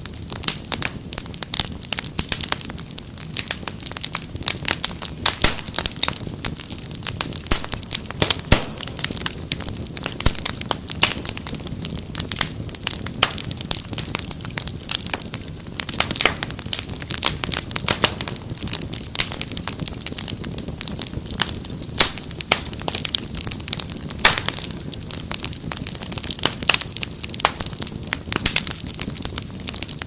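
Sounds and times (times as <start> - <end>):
low rumble of flame: 0.0 - 30.0
wood fire crackling: 0.0 - 30.0.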